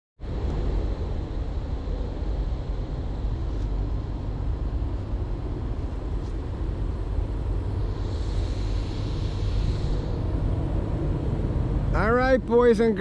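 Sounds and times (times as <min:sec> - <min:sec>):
low outdoor rumble: 0:00.2 - 0:13.0.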